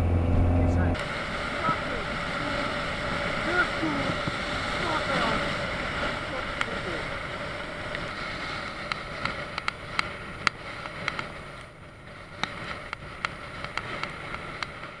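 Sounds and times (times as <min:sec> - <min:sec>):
motorcycle engine: 0:00.0 - 0:15.0
wind noise: 0:00.0 - 0:15.0.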